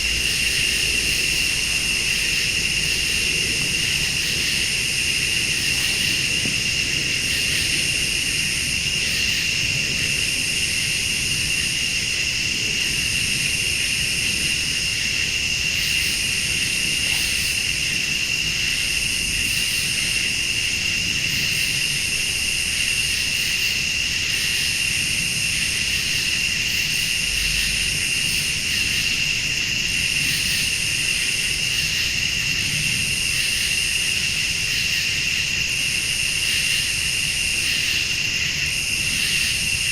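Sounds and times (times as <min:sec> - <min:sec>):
crickets trilling: 0:00.0 - 0:39.9
pulsing insect call: 0:00.0 - 0:39.9.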